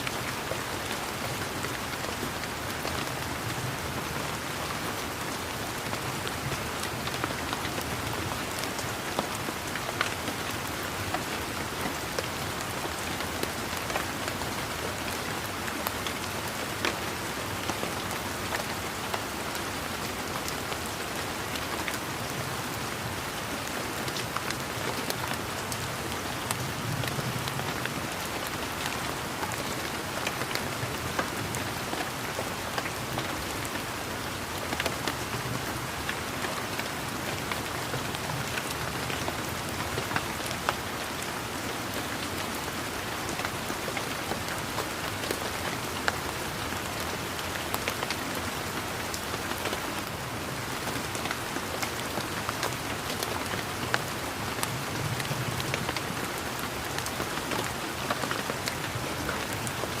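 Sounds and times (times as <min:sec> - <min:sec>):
rain falling on leaves: 0:00.0 - 1:00.0.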